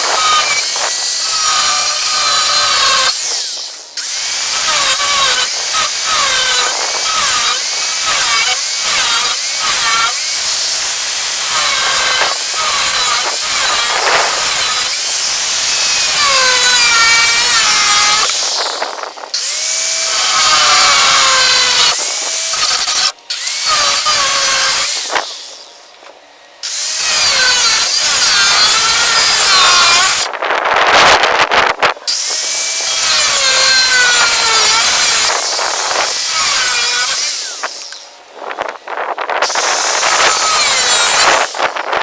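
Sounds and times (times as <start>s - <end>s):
power tool grinding steel: 0.0s - 42.0s.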